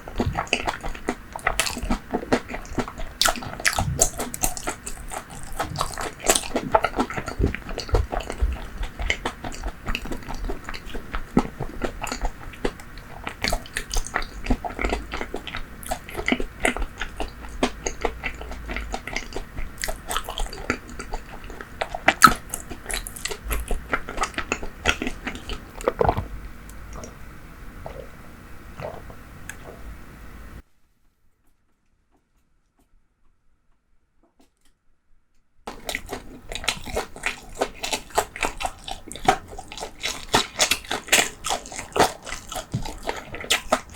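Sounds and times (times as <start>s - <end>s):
chewing crunchy food: 0.0s - 27.2s, 27.8s - 30.0s, 35.7s - 43.9s.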